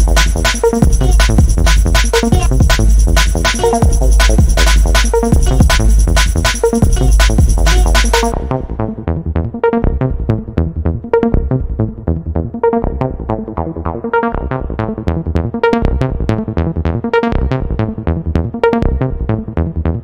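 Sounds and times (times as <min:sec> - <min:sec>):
plucked synth notes: 0:00.0 - 0:19.6.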